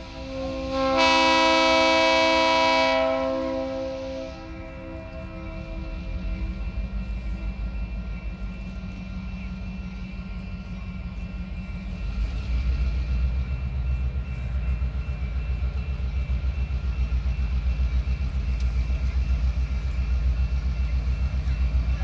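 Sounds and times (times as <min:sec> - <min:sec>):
locomotive engine rumbling: 0:00.0 - 0:22.0
faint steady high tones: 0:03.3 - 0:22.0.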